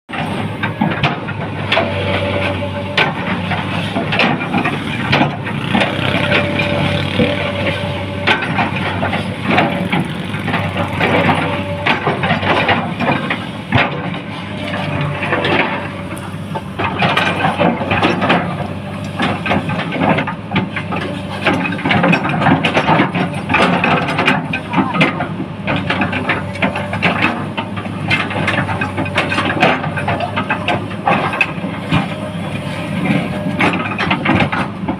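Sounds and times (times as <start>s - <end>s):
heavy engine running: 0.1s - 34.9s.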